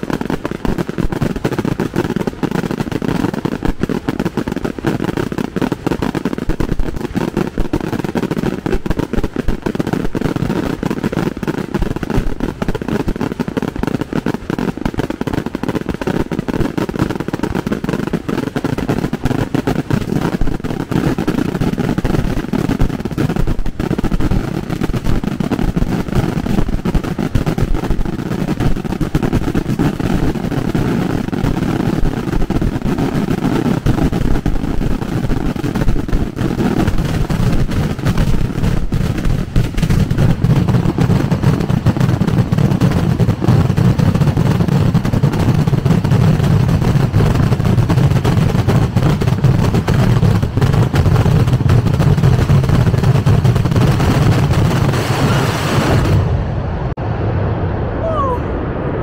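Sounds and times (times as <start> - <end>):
fireworks barrage rumbling: 0.0 - 59.0.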